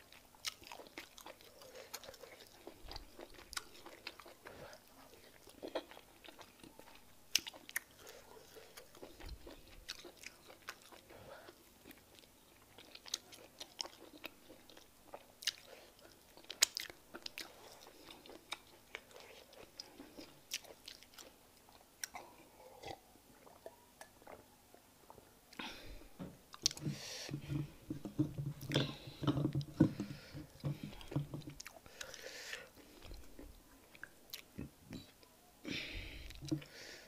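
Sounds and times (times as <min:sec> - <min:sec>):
wet chewing and lip-smacking: 0:00.0 - 0:25.6, 0:26.5 - 0:35.2.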